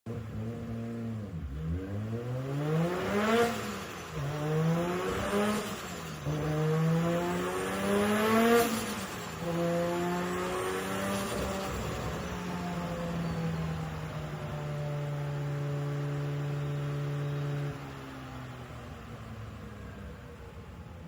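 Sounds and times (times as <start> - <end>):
car engine revving: 0.1 - 20.8.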